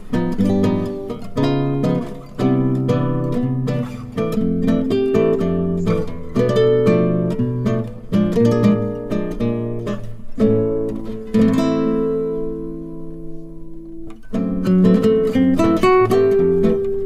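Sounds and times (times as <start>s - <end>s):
acoustic guitar picking: 0.0s - 17.0s
guitar chord ringing: 0.0s - 17.0s.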